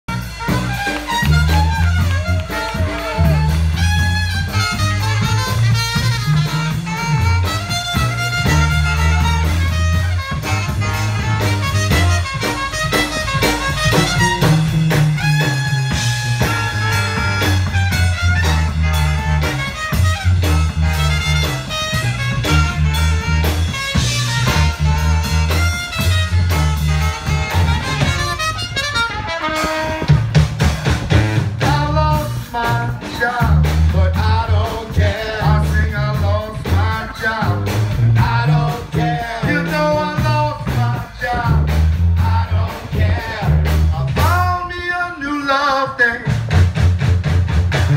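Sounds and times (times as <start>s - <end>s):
brass band playing blues: 0.0s - 47.9s
low bass line: 0.1s - 45.4s.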